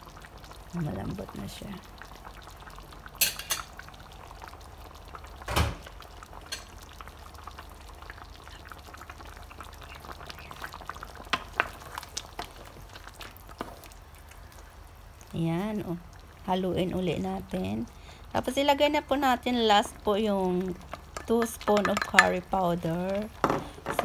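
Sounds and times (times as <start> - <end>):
curry bubbling in a pan: 0.0 - 24.0.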